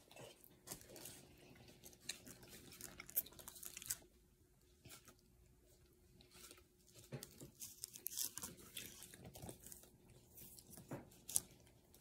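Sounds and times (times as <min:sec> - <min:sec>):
chewing: 0:00.0 - 0:04.1, 0:06.2 - 0:12.0.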